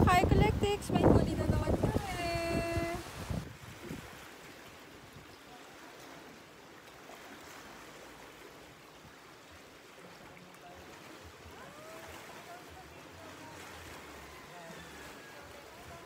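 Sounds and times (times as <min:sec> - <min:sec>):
waves lapping against rocks: 0:00.0 - 0:16.0.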